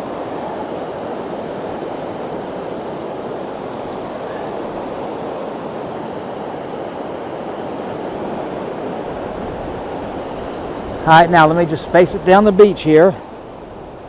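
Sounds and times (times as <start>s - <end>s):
wind on microphone: 0.0s - 12.4s
ocean surf breaking: 0.0s - 14.0s.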